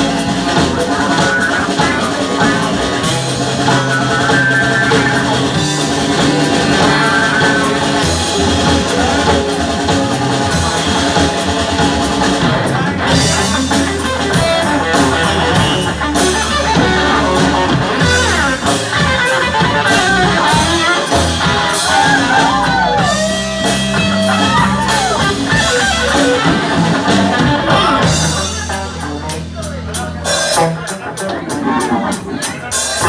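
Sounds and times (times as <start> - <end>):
electric guitar lead with bent notes: 0.0 - 33.0
live rock band playing: 0.0 - 33.0.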